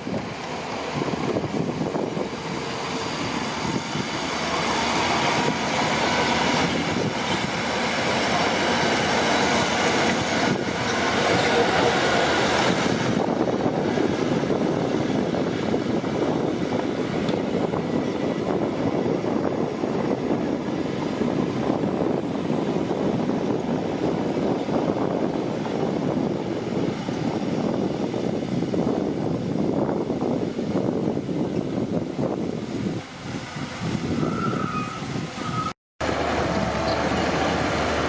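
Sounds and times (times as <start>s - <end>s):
steel tracks clattering and squealing: 0.0s - 28.6s, 33.8s - 38.0s
bulldozer diesel engine running: 0.0s - 31.9s, 36.0s - 38.0s.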